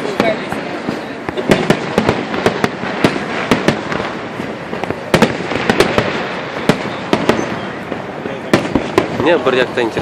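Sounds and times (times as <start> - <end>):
crackling rumble: 0.0 - 10.0
fireworks bangs and pops: 0.0 - 10.0.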